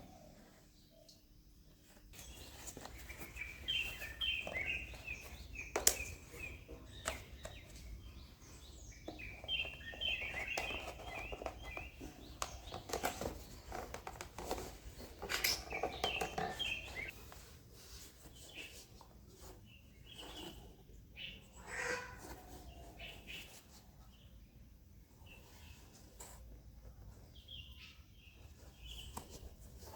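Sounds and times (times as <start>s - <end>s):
small birds chirping: 0.0s - 17.4s, 18.0s - 29.9s.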